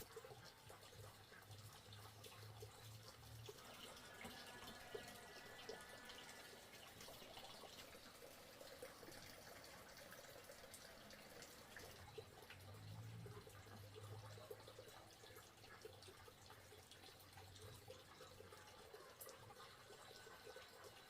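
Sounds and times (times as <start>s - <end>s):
water trickling and dripping: 0.0s - 21.0s.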